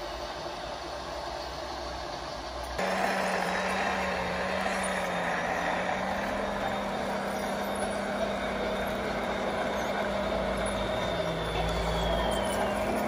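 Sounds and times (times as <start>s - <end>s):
model truck motor humming: 0.0s - 13.0s.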